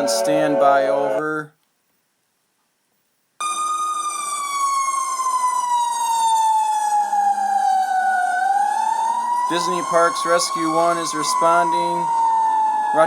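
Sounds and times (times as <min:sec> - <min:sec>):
emergency vehicle siren wailing: 0:00.0 - 0:01.3, 0:03.4 - 0:13.0.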